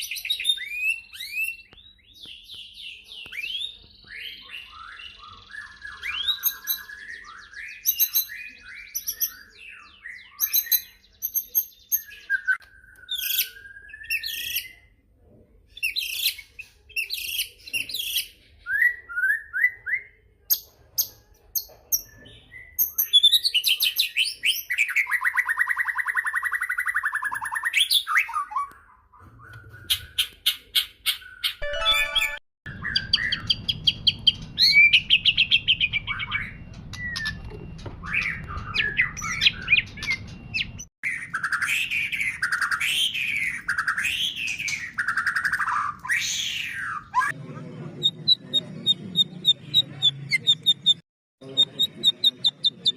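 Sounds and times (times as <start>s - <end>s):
bird singing whistles and trills: 0.0s - 14.9s, 15.8s - 21.1s, 22.0s - 47.4s.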